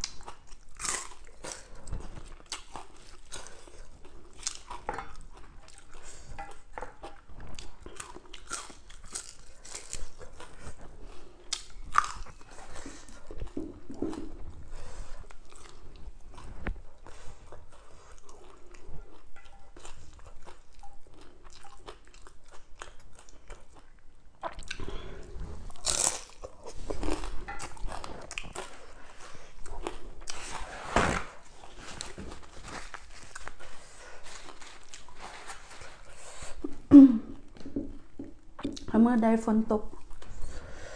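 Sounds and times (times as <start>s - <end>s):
person chewing crunchy salad: 0.0s - 30.8s, 31.4s - 36.8s.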